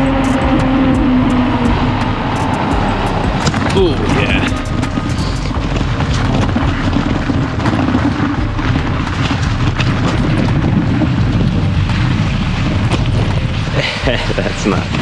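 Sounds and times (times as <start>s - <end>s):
wind buffeting microphone: 0.0s - 15.0s
bike clicks and rattles: 1.9s - 15.0s.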